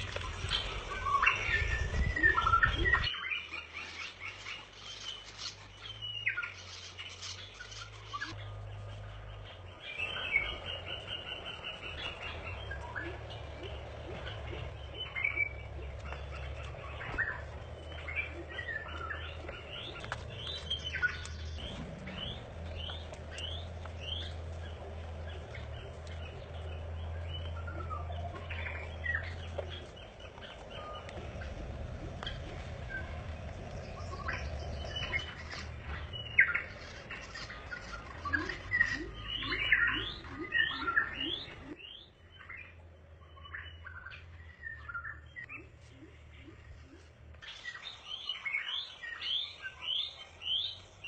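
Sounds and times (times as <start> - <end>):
birds chirping: 0.0 - 51.0
low hum: 0.0 - 51.0.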